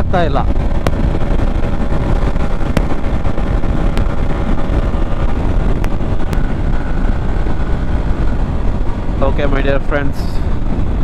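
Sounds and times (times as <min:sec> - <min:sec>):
motorcycle engine drone: 0:00.0 - 0:11.0
wind rushing over microphone: 0:00.0 - 0:11.0.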